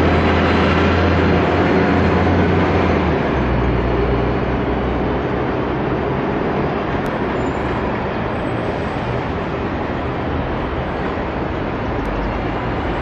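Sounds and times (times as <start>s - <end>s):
bus engine drone: 0.0s - 13.0s
street traffic noise: 0.0s - 13.0s.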